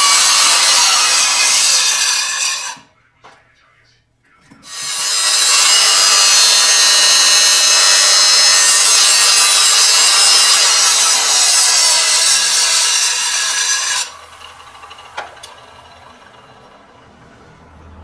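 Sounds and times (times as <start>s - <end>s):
metal lathe grinding: 0.0s - 2.8s, 4.7s - 17.0s.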